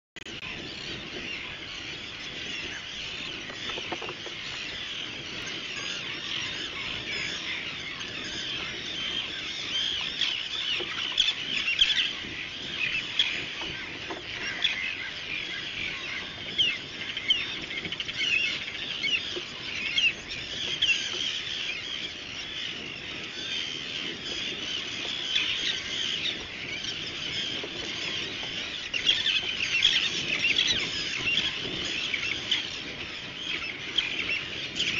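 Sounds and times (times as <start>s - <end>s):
seabird colony calling: 0.3s - 34.9s.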